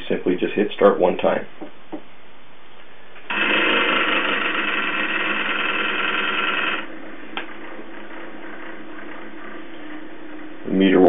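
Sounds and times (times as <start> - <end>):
quiet steady hum: 0.0 - 11.0.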